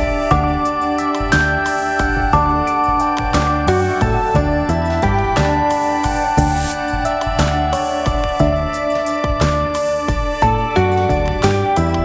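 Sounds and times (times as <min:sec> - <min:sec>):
soft instrumental music with beat: 0:00.0 - 0:12.0.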